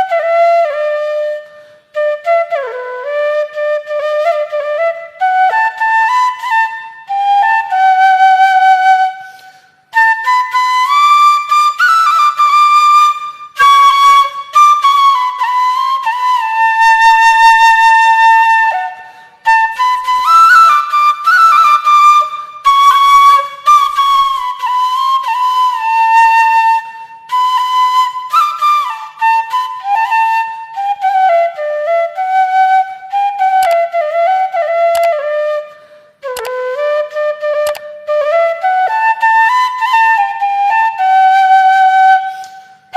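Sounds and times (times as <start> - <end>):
solo flute melody: 0.0 - 42.9.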